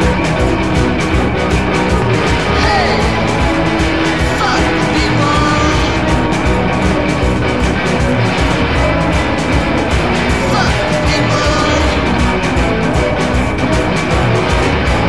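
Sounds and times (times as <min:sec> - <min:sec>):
electric guitars: 0:00.0 - 0:15.0
live rock band playing loudly: 0:00.0 - 0:15.0.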